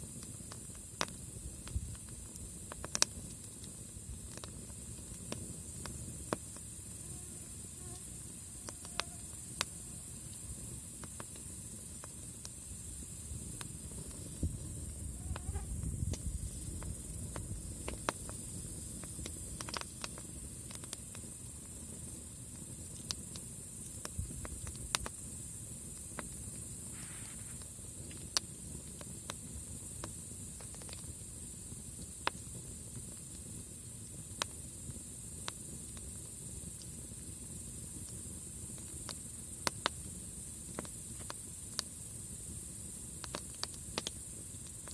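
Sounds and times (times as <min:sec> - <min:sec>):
campfire crackling and popping: 0:00.0 - 0:44.9
low rumble of flames: 0:00.0 - 0:44.9
night insects chorus: 0:03.3 - 0:44.9.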